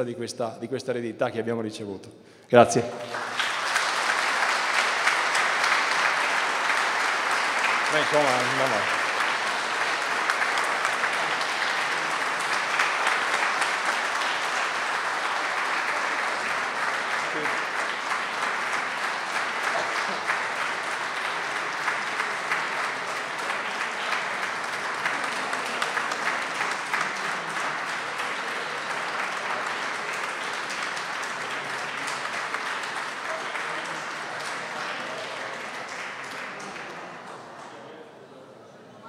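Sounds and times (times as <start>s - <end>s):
audience applauding: 2.6s - 37.9s.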